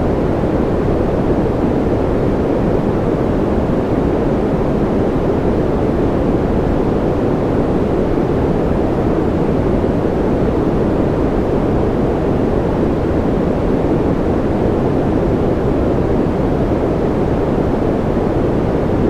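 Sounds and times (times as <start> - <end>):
deep rumbly white noise: 0.0 - 19.0.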